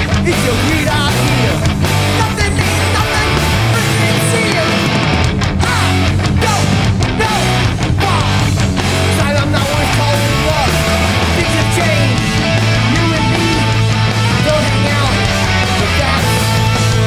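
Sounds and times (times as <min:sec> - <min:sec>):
bass: 0:00.0 - 0:17.0
distorted electric guitar: 0:00.0 - 0:17.0
drums: 0:00.0 - 0:17.0.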